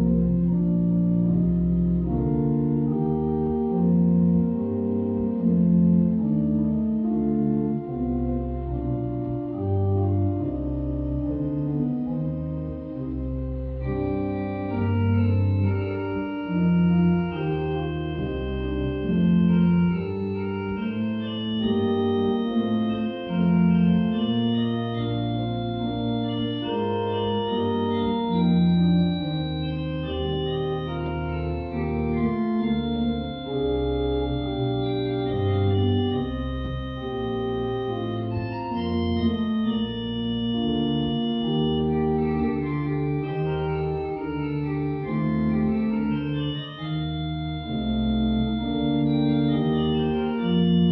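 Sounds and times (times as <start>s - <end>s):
pipe organ playing: 0.0s - 50.9s.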